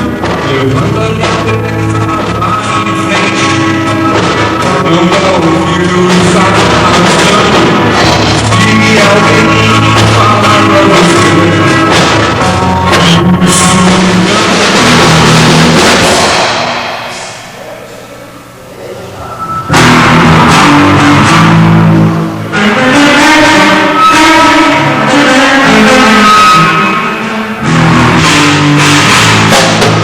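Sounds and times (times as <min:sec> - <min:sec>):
rock band playing live: 0:00.0 - 0:17.5, 0:19.3 - 0:30.0.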